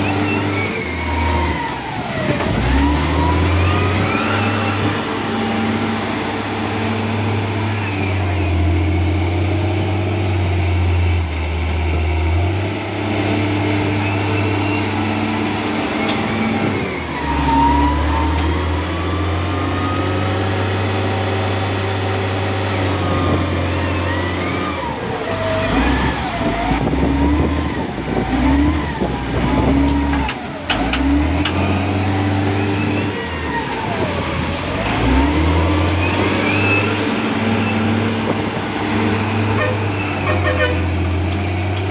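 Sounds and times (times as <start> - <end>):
diesel engine changing speed: 0.0 - 41.9.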